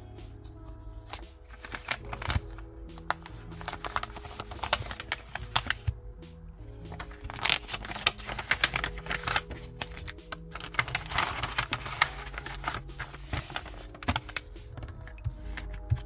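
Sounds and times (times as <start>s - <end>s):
paper rustling: 0.4s - 6.0s, 6.6s - 16.0s.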